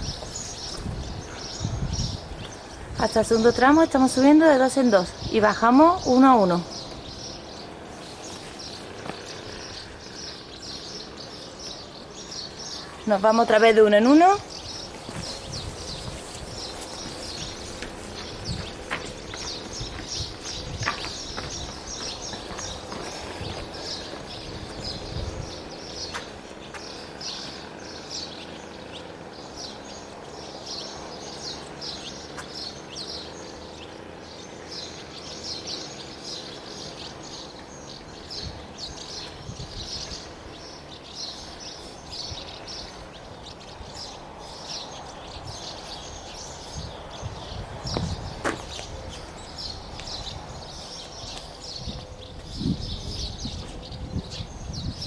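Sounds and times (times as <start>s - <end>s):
outdoor background noise: 0.0s - 55.0s
small birds chirping: 0.0s - 55.0s.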